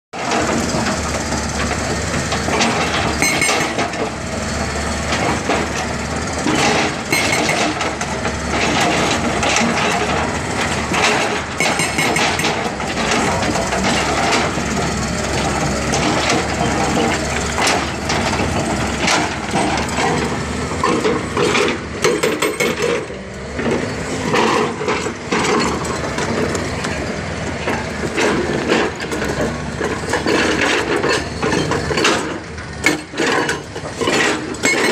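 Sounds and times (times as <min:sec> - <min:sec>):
excavator engine and hydraulics: 0:00.2 - 0:34.9
steel clanking on stone: 0:02.4 - 0:04.1, 0:06.4 - 0:34.9.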